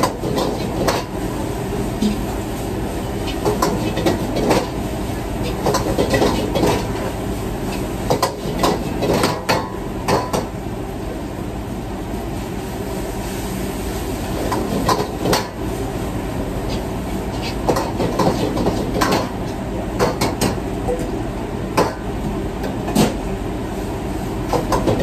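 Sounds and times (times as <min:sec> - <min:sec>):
kitchen range and exhaust hood roar: 0:00.0 - 0:25.0.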